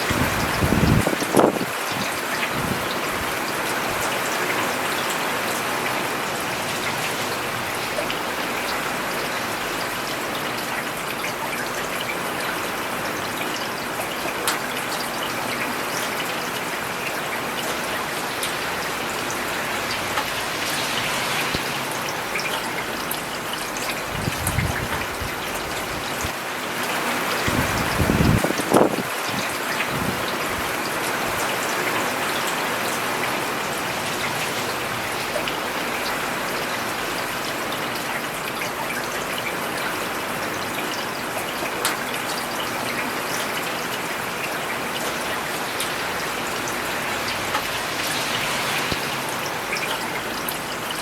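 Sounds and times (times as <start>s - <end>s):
rain falling on road: 0.0s - 51.0s.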